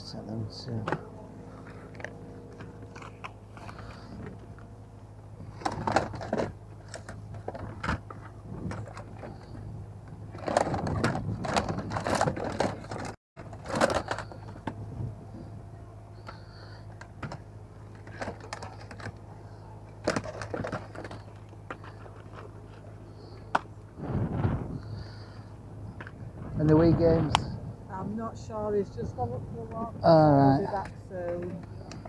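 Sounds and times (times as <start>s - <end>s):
steady low hum: 0.0s - 32.0s
items rustling and scraping: 0.7s - 15.6s, 16.2s - 27.4s, 30.6s - 32.0s.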